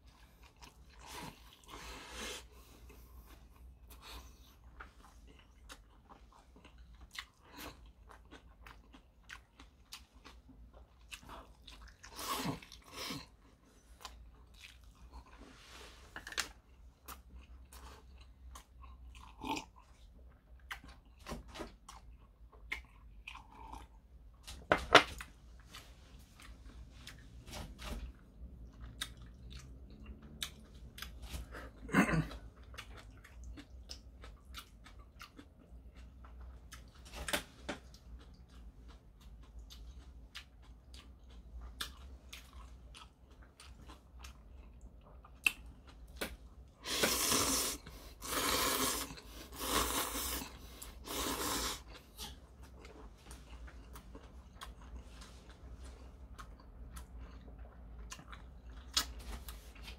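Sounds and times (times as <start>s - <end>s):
close chewing and eating: 0.0s - 59.9s.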